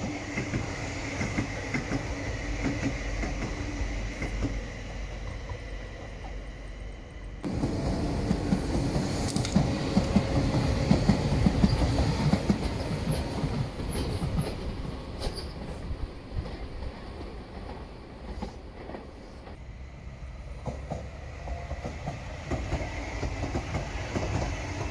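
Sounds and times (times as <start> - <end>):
train wheels clattering: 0.0 - 5.6, 7.4 - 19.6, 20.6 - 24.9.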